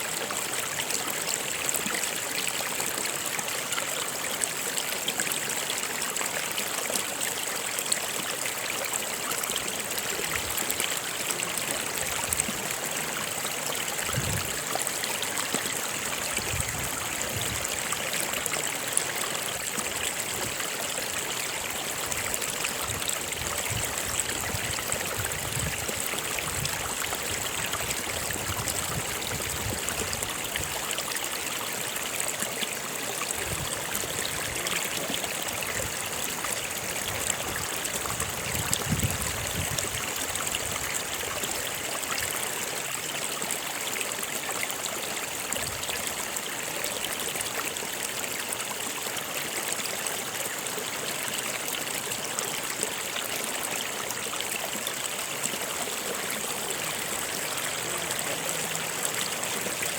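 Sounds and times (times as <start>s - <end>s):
stream water flowing: 0.0s - 59.9s
low water gurgles: 4.1s - 48.5s, 49.6s - 59.9s.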